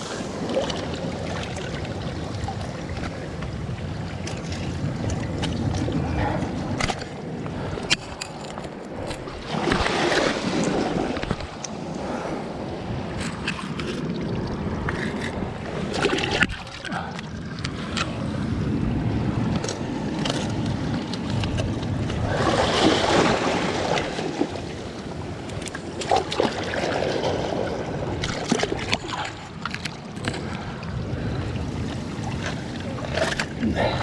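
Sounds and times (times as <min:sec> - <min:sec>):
wind on microphone: 0:00.0 - 0:29.6
sea waves washing: 0:00.0 - 0:34.0.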